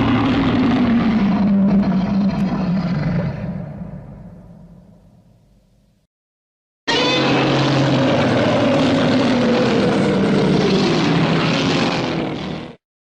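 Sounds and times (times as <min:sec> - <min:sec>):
mechanical drone falling in pitch: 0:00.0 - 0:05.0, 0:06.9 - 0:12.8.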